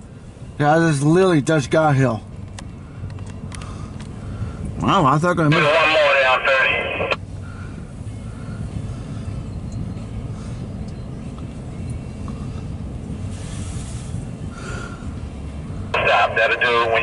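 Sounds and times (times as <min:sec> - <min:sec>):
truck engine idling: 0:02.2 - 0:17.0.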